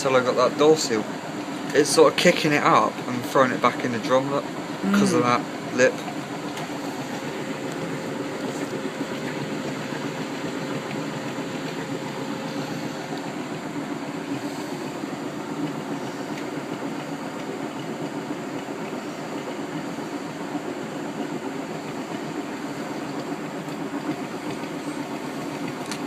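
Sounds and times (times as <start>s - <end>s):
washing machine churning: 0.0s - 26.0s
water sloshing in drum: 4.4s - 25.8s.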